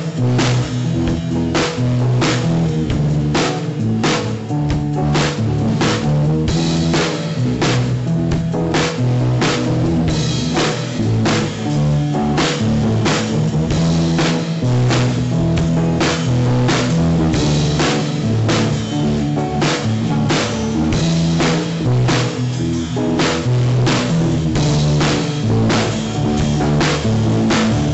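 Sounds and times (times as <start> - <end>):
drum kit beat: 0.0 - 27.9
guitar and bass: 0.0 - 27.9.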